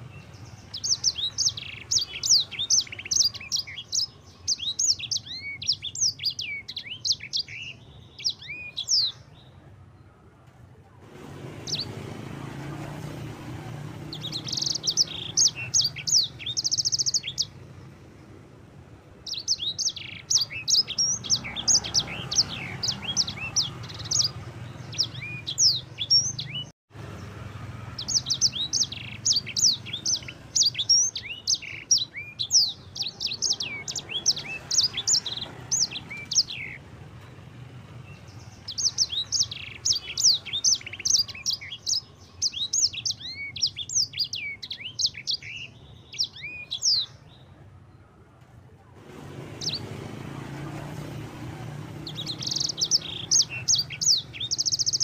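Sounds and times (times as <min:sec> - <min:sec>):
finch twittering song: 0:00.0 - 0:09.6, 0:11.1 - 0:18.0, 0:19.2 - 0:47.6, 0:49.0 - 0:55.0.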